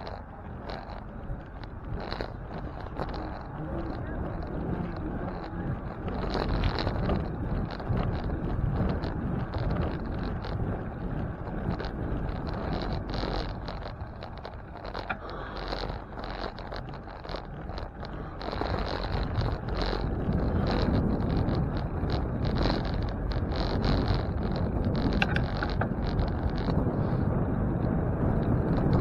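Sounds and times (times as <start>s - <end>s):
rattling clicks: 0.0s - 27.3s
bicycle rolling noise: 0.0s - 29.0s
wind buffeting microphone: 0.0s - 29.0s.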